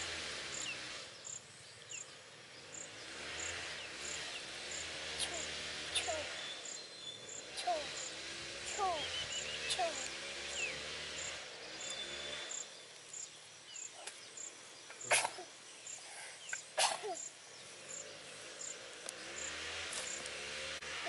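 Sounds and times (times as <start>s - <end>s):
insect chirping: 0.5s - 20.8s.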